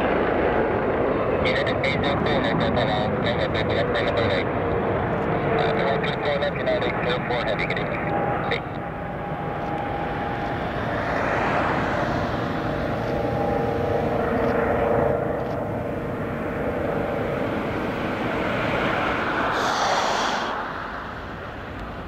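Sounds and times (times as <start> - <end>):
jet engine rumble and whine: 0.0 - 22.0.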